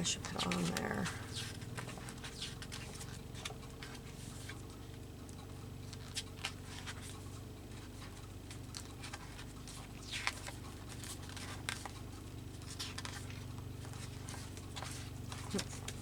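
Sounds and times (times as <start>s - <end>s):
paper rustling and tapping: 0.0s - 5.0s, 5.8s - 16.0s
steady low hum: 0.0s - 16.0s.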